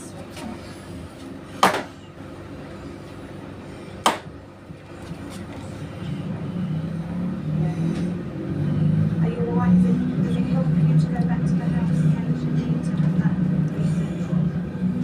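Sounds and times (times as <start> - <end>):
city traffic noise: 0.0 - 15.0
vehicle engine: 0.0 - 15.0.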